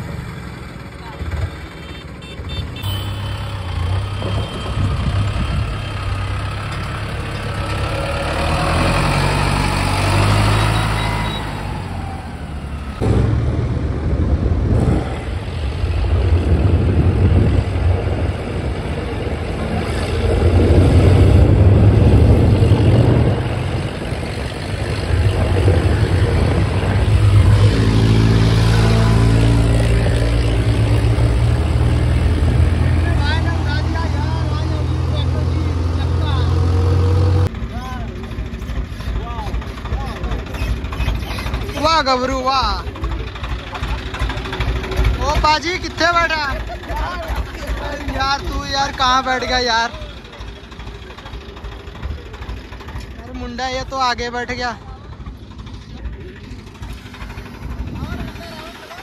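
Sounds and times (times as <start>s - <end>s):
tractor engines driving: 0.0s - 59.0s.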